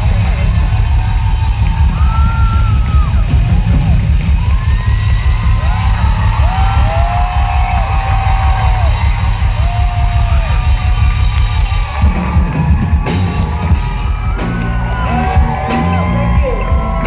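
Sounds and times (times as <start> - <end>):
crowd whooping and yelling: 0.0 - 17.0
heavy bass beat over speakers: 0.0 - 17.0.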